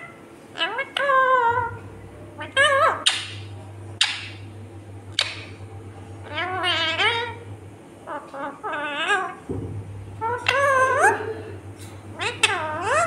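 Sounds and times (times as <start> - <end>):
parakeet calling: 0.0 - 13.0.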